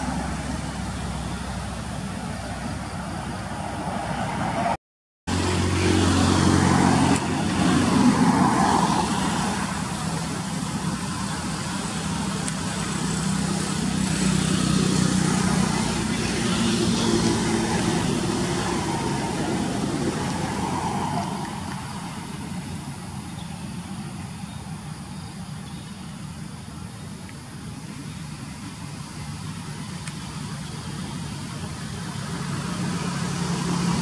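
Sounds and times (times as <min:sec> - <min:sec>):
road traffic noise: 0:00.0 - 0:34.0.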